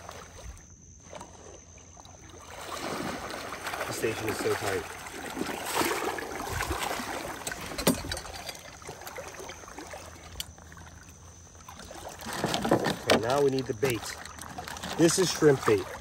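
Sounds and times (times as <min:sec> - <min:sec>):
water sloshing and trickling: 0:00.0 - 0:16.0.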